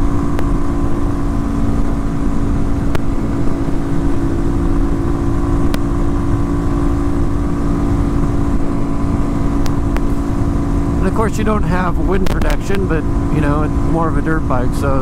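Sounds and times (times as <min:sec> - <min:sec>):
motorcycle engine running: 0:00.0 - 0:15.0
wind rush over microphone: 0:00.0 - 0:15.0.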